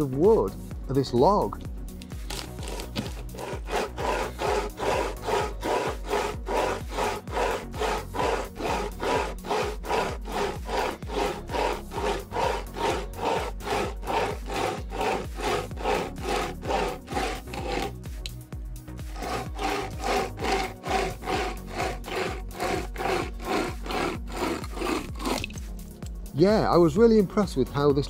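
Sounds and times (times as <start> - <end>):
hand chainsaw rasping through log: 2.1 - 25.8.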